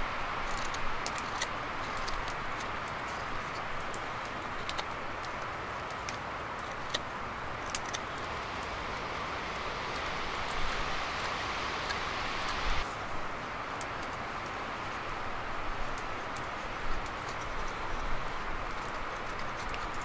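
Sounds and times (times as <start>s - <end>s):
rushing background noise: 0.0s - 20.0s.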